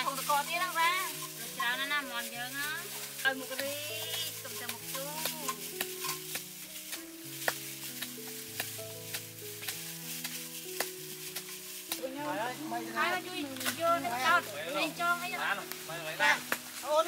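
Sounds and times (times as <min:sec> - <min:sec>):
food sizzling and popping: 0:00.0 - 0:17.0
slow background music: 0:00.0 - 0:17.0.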